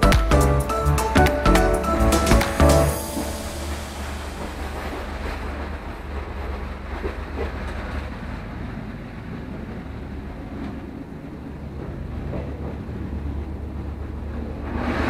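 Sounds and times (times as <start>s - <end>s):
train carriage drone and rumble: 0.0s - 15.0s.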